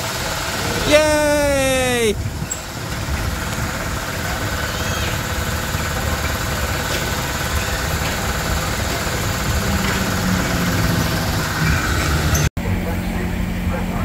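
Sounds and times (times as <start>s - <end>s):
ride machinery humming: 0.0s - 14.0s.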